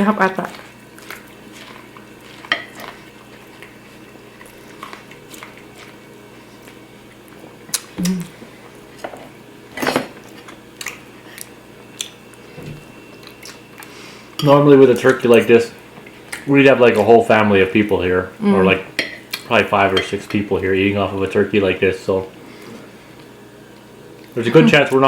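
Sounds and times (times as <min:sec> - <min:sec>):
people chewing food: 0:00.0 - 0:09.4, 0:10.2 - 0:25.0.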